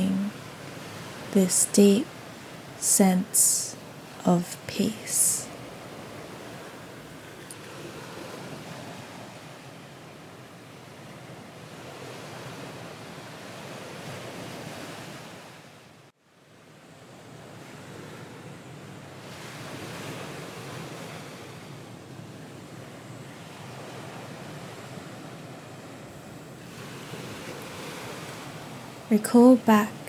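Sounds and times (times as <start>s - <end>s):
ocean waves washing: 0.0s - 16.0s, 17.2s - 30.0s.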